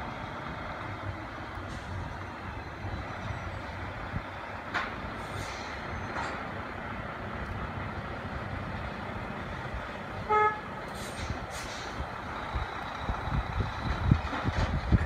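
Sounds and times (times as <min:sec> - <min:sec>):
distant truck engine rumble: 0:00.0 - 0:15.0.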